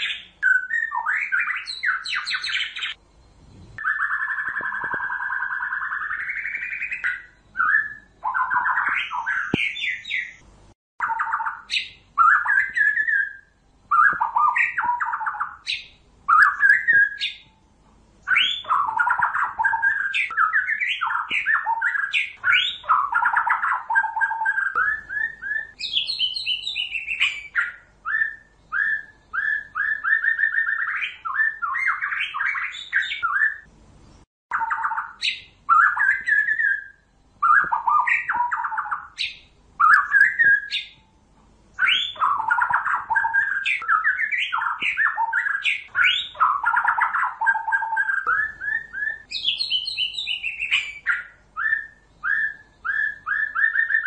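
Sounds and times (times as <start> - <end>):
bird singing whistled phrases: 0.0 - 3.0, 3.8 - 10.4, 11.0 - 17.6, 18.2 - 33.7, 34.5 - 41.1, 41.8 - 54.0.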